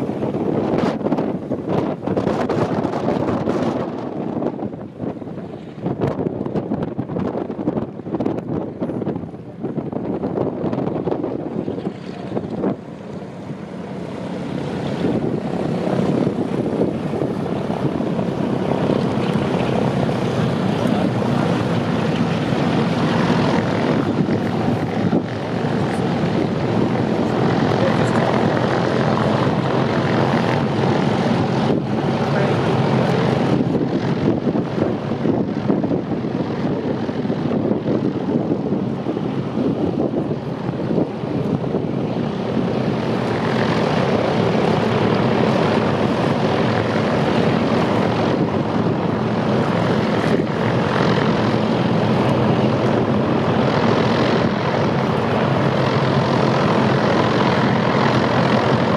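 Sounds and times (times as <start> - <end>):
propeller aircraft engines: 0.0 - 58.9.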